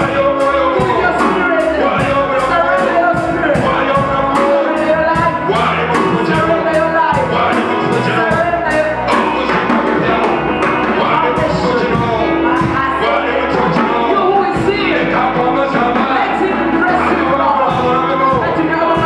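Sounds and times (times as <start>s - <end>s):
worship music with singing: 0.0s - 19.0s.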